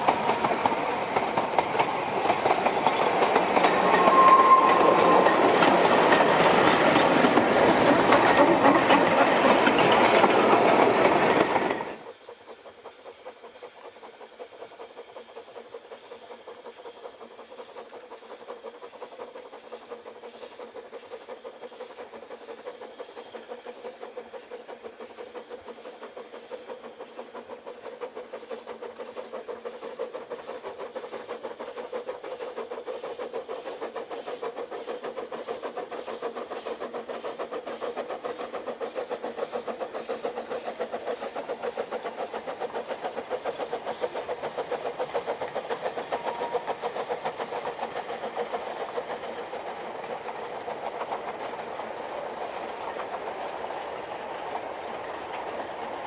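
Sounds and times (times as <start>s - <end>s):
steam locomotive exhaust beating: 0.0s - 56.0s
train wagons clickety-clack: 0.0s - 56.0s.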